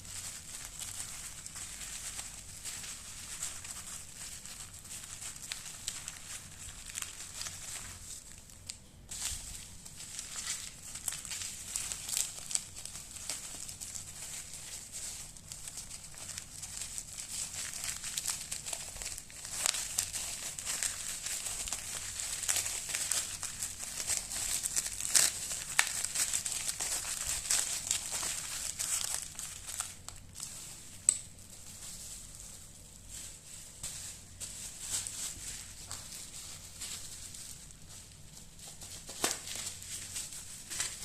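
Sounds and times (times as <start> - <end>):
packing material crinkling: 0.0 - 41.0.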